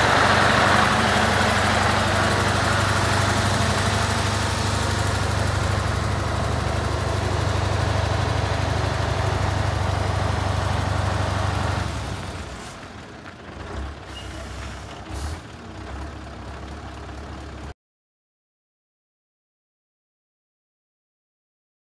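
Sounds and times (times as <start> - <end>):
diesel truck engine idling: 0.0 - 17.7.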